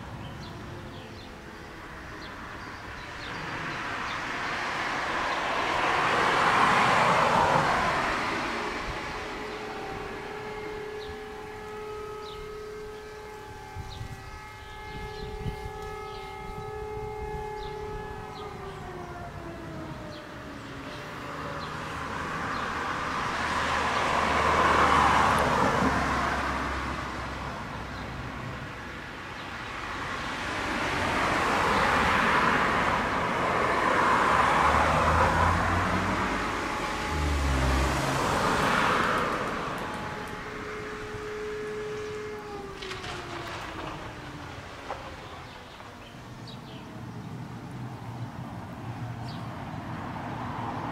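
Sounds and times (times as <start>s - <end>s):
fire alarm siren winding down: 0.0s - 28.3s, 29.8s - 46.7s
cars passing by: 0.0s - 50.9s.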